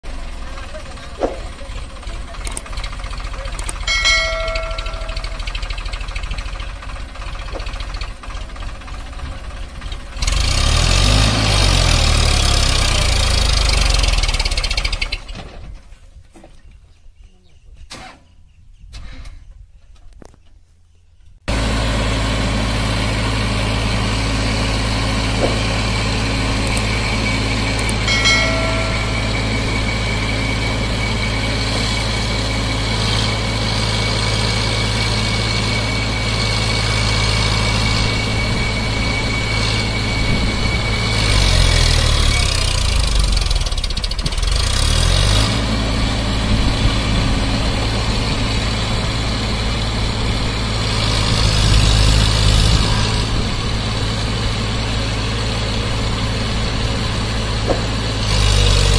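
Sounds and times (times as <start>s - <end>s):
tractor diesel engine running: 0.0s - 16.1s, 21.4s - 58.9s.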